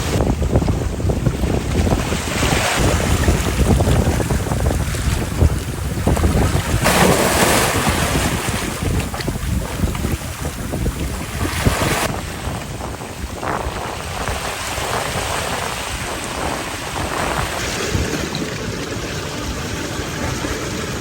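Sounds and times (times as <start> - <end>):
sea surf: 0.0 - 21.0
wind buffeting microphone: 0.0 - 21.0.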